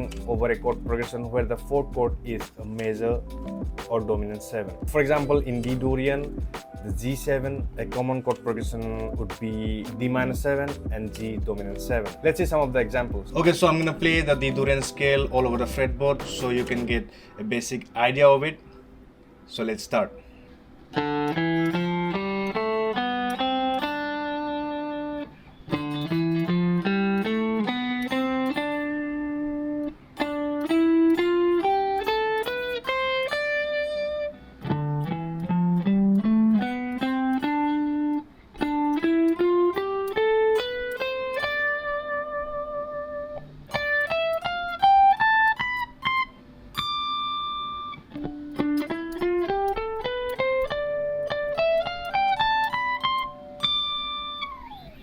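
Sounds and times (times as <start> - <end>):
electric guitar playing scale: 0.0 - 55.0.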